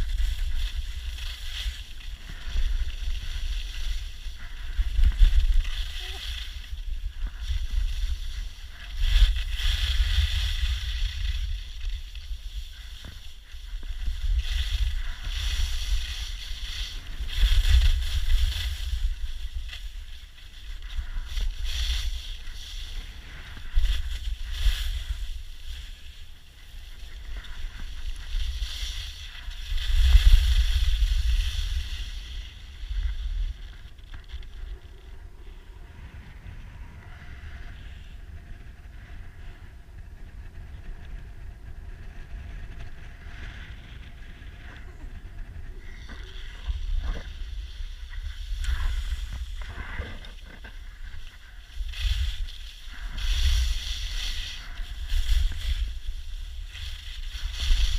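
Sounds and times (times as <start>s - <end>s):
skis scraping over snow: 0.0s - 57.9s
wind buffeting microphone: 0.0s - 57.9s.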